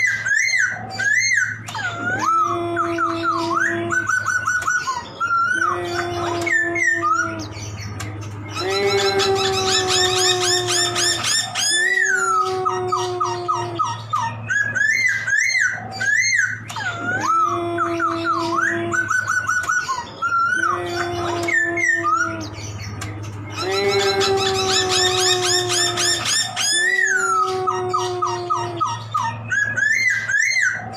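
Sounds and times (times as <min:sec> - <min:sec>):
laughingthrush singing: 0:00.0 - 0:30.9.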